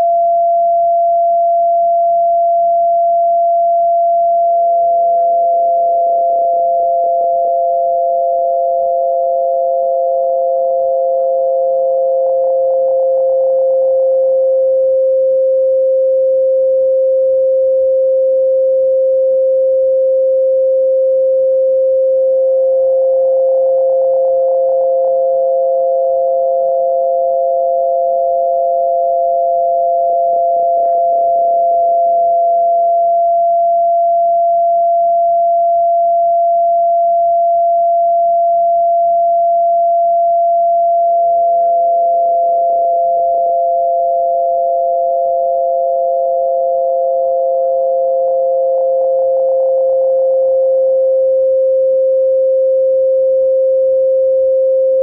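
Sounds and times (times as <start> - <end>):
higher sine tone: 0.0 - 55.0
lower sine tone: 0.0 - 55.0.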